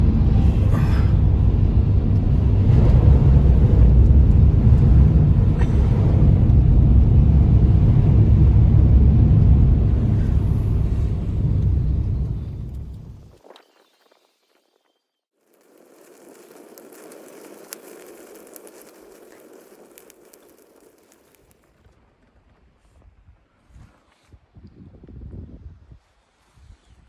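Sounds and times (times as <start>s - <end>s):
wind buffeting microphone: 0.0s - 13.5s, 15.7s - 21.4s, 23.0s - 27.0s.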